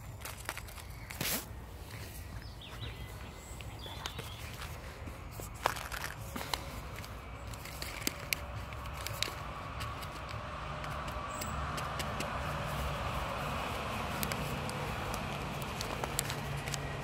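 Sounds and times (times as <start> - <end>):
low outdoor rumble: 0.0 - 17.0
squirrel gnawing and crunching: 0.0 - 17.0.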